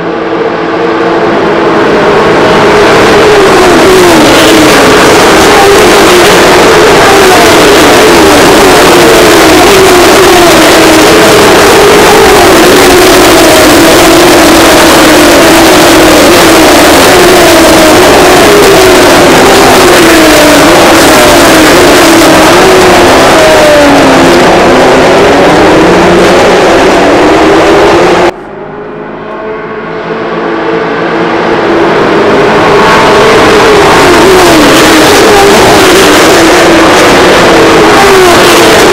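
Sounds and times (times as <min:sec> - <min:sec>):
racing car engines: 0:00.0 - 0:28.4, 0:29.9 - 0:38.9.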